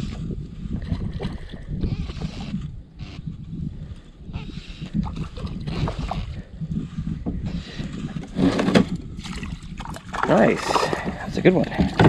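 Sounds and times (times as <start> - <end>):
water sounds: 0.0 - 12.0
wind rumbling on microphone: 0.0 - 12.0.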